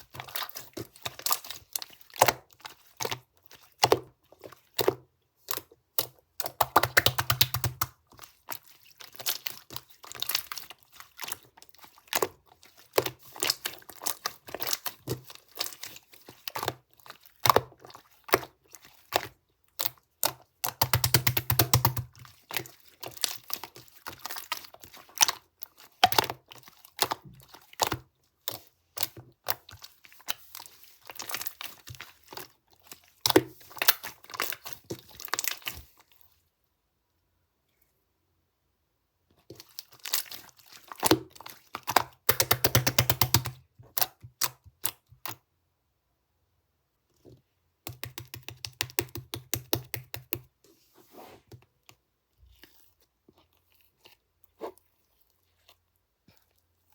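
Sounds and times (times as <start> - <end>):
hands squishing slime: 0.0 - 36.4, 39.4 - 45.4, 47.9 - 56.9.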